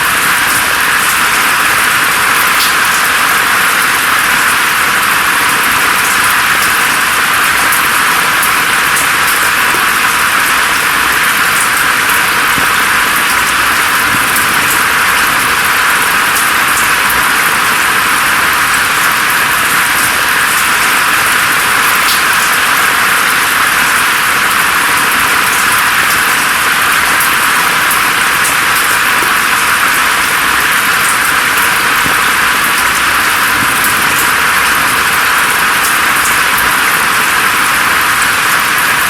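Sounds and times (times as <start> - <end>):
raindrop ticks: 0.0 - 39.0
steady rain hiss: 0.0 - 39.0.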